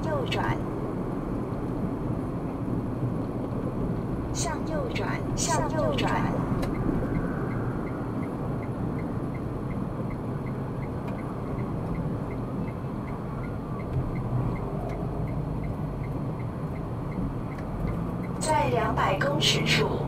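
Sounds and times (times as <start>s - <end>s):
car cabin road rumble: 0.0s - 20.0s
turn signal ticking: 0.0s - 20.0s.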